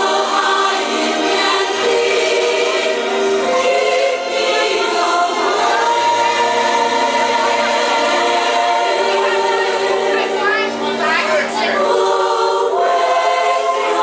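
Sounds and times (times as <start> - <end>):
choir singing in harmony: 0.0 - 14.0.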